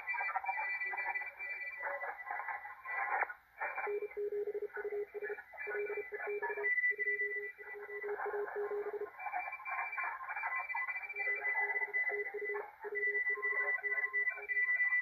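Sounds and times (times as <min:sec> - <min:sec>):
radio band noise: 0:00.0 - 0:15.0.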